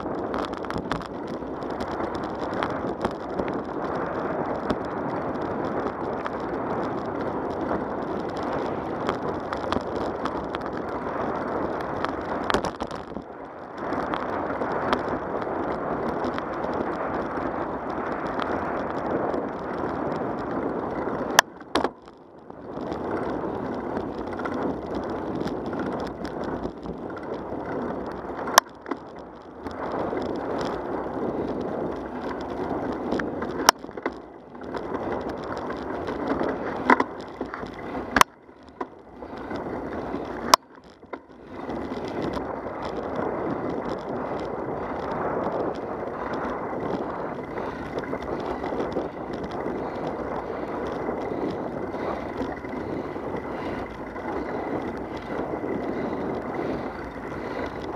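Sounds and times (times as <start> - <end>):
wheels rolling on asphalt: 0.0 - 57.9
wind noise: 0.0 - 57.9.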